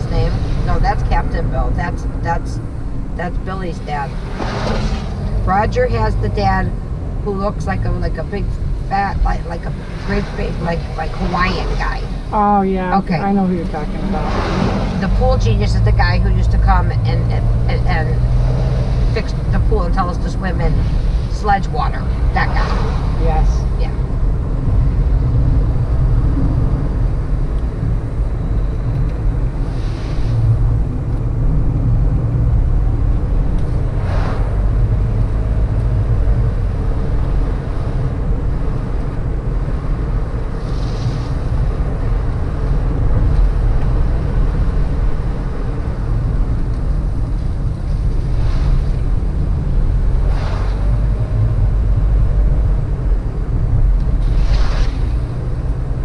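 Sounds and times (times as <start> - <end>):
car engine and road noise: 0.0 - 56.0
wind: 0.0 - 56.0.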